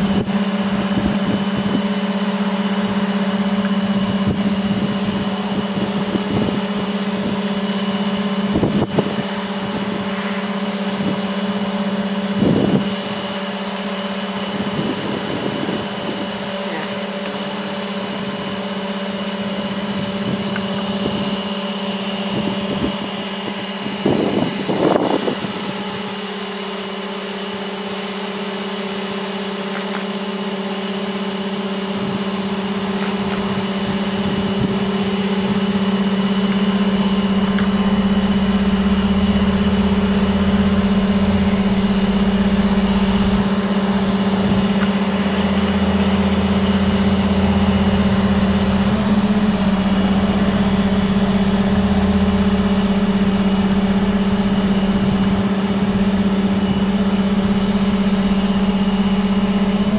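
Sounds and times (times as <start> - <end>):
crane engine running: 0.0 - 59.9.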